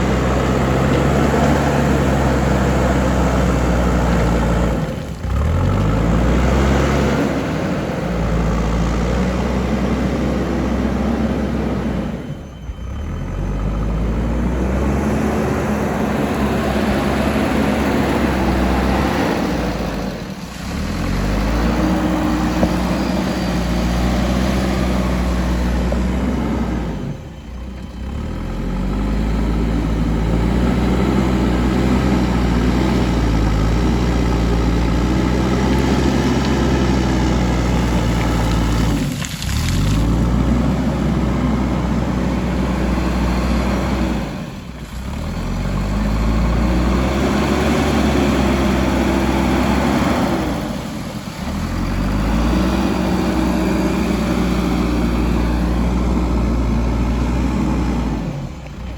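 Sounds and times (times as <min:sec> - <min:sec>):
diesel engine revving: 0:00.0 - 0:58.9.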